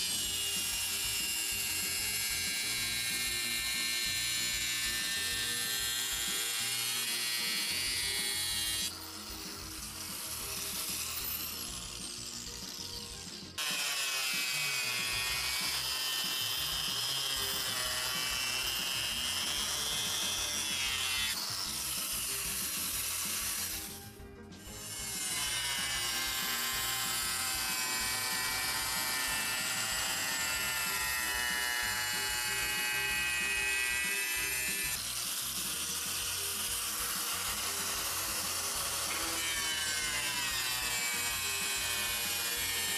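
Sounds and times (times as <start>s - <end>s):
angle grinder grinding stone: 0.0s - 42.9s.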